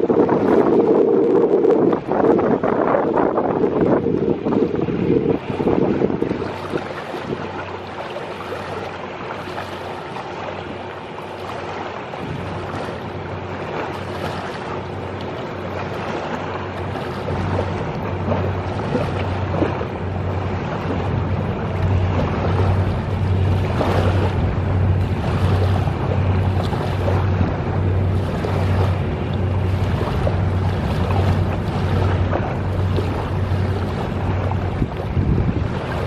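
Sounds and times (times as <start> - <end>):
tugboat diesel engine drone: 0.0 - 36.0
waves lapping on beach: 0.0 - 36.0
wind on microphone: 0.0 - 36.0.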